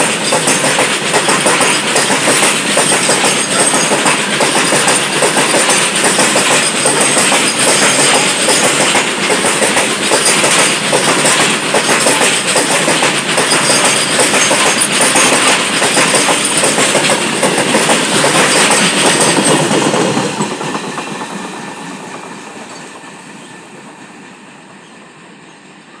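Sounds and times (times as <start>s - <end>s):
wheels clattering on rails: 0.0s - 23.4s
freight train rumbling past: 0.0s - 26.0s.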